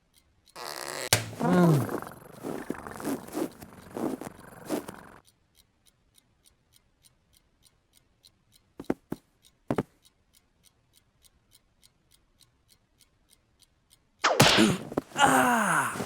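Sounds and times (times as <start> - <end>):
clock ticking: 0.0 - 15.1.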